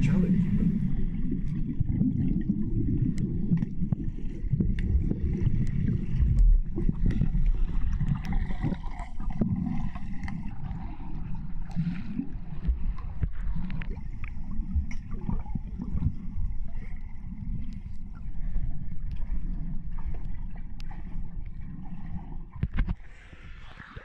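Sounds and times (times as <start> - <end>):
bubbling underwater: 0.0 - 22.5
muffled underwater rumble: 0.0 - 24.0.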